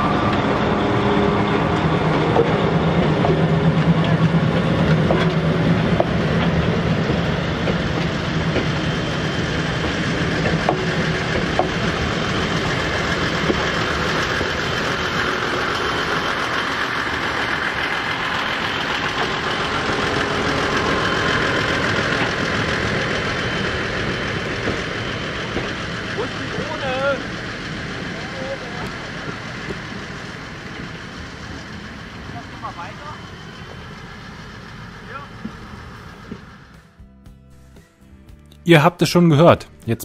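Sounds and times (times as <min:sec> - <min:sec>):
train cars rumbling on track: 0:00.0 - 0:37.9
diesel railcar engine drone: 0:00.0 - 0:40.0.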